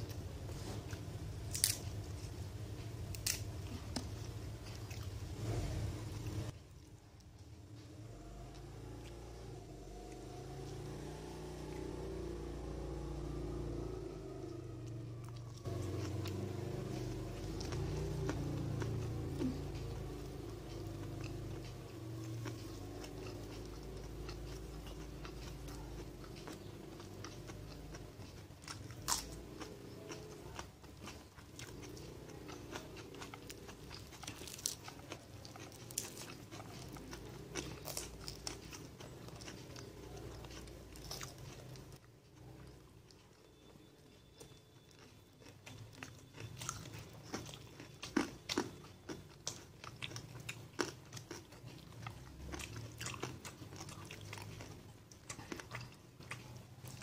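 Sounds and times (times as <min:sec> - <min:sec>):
chewing and crunchy bites: 0:00.0 - 0:57.0.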